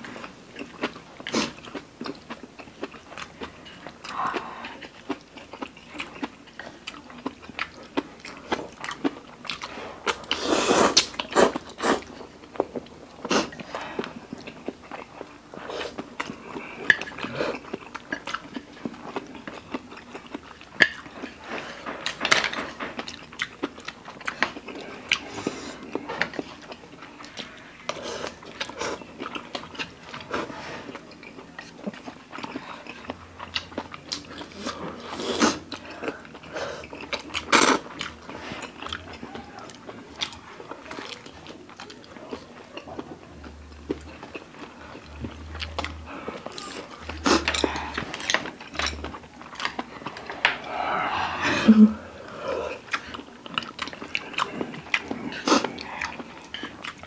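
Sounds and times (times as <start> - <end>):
person chewing and slurping: 0.0 - 57.0.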